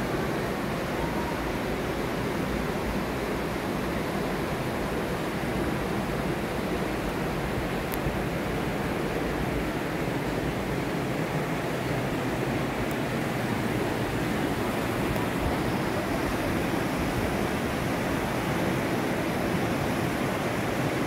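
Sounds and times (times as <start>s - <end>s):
creek rushing over rocks: 0.0s - 21.0s.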